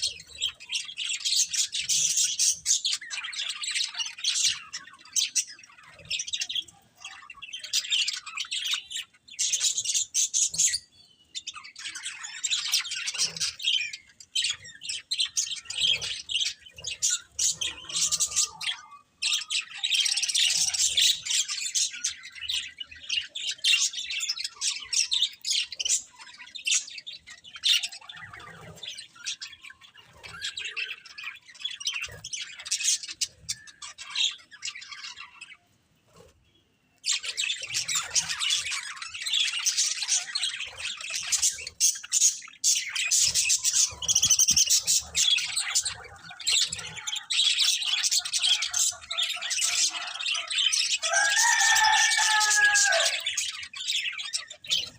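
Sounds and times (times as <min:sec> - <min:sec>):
budgerigars chirping and chattering: 0:00.0 - 0:54.9.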